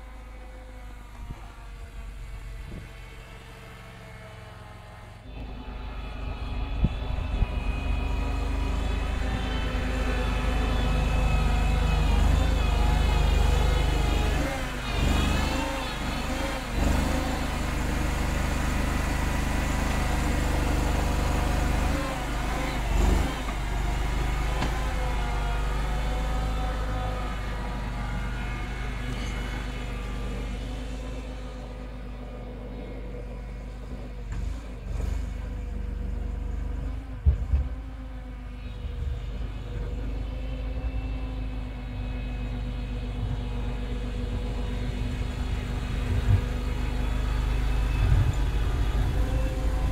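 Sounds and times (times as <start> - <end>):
loader engine running: 0.0 - 49.9.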